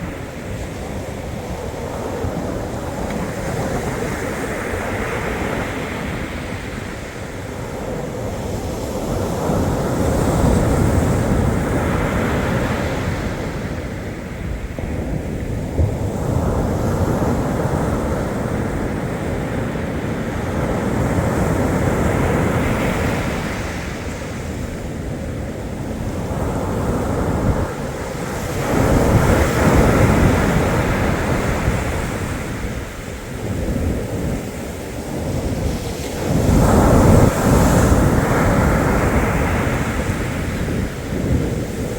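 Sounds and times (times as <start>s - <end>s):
sea waves breaking: 0.0s - 41.9s
wind buffeting microphone: 0.0s - 41.9s.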